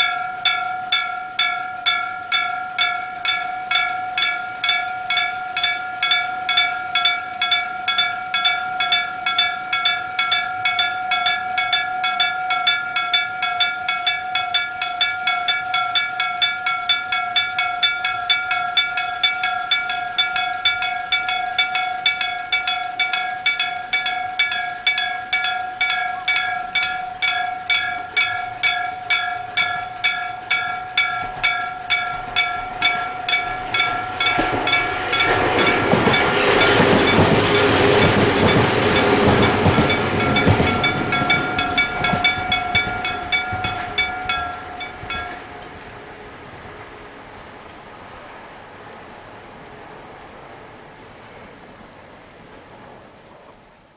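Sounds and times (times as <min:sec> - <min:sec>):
level crossing bell clanging: 0:00.0 - 0:46.2.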